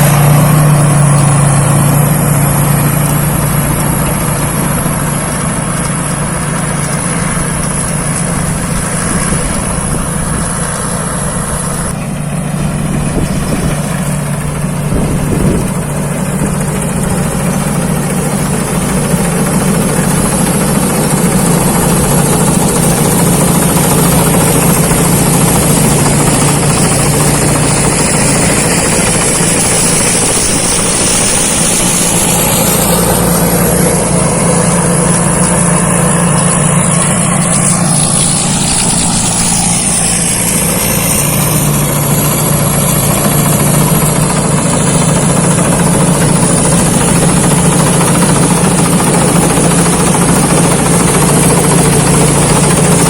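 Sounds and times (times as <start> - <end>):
combine harvester engine drone: 0.0 - 53.0
machinery clatter: 0.0 - 53.0.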